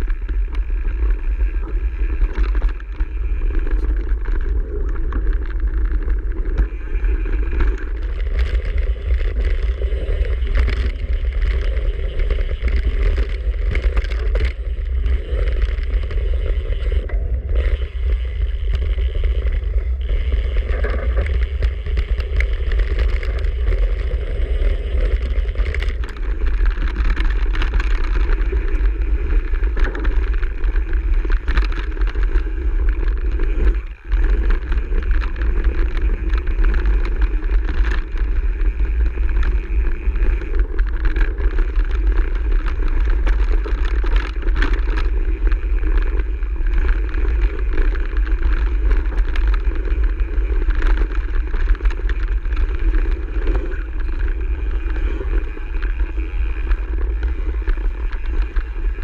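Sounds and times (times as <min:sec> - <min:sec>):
bike rattling over bumps: 0:00.0 - 0:59.0
bike tyres on gravel: 0:00.0 - 0:59.0
wind rumble on microphone: 0:00.0 - 0:59.0.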